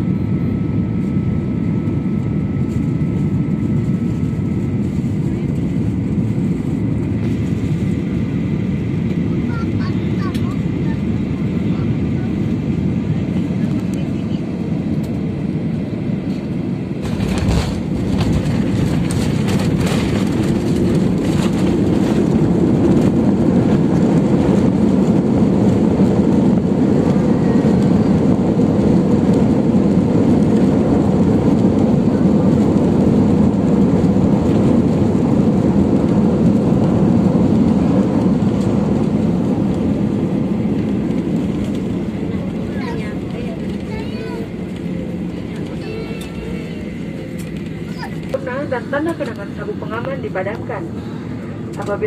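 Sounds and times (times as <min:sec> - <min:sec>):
jet engines and wheels roaring: 0:00.0 - 0:52.0.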